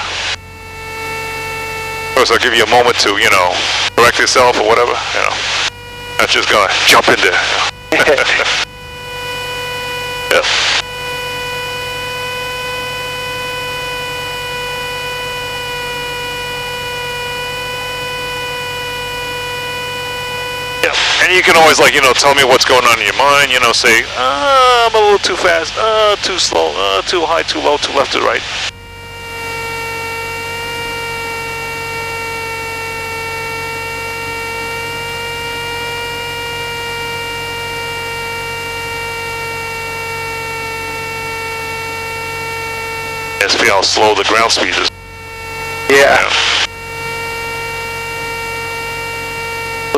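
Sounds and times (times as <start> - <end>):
airplane engine drone: 0.0 - 49.9
high-pitched hum: 0.0 - 49.9.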